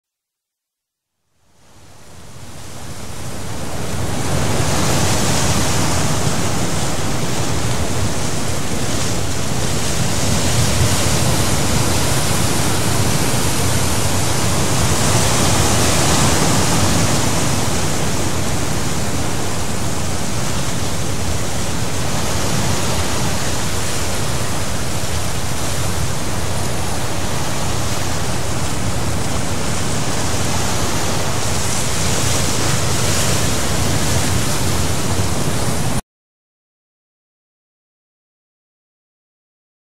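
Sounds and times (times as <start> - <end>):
waves breaking: 1.6 - 36.0.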